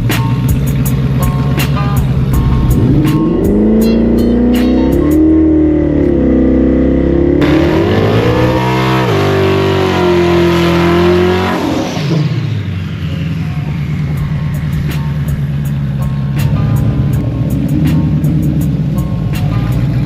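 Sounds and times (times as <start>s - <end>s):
drag racing car engine accelerating: 0.0s - 20.0s.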